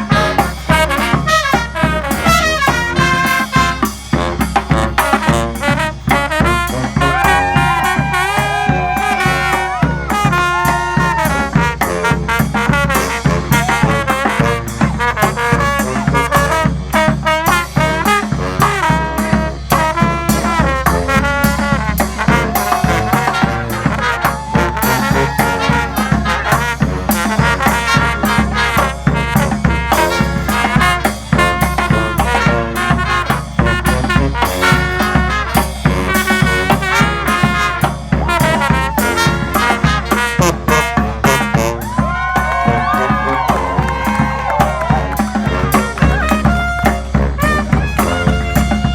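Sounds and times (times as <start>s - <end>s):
brass band playing: 0.0s - 48.9s.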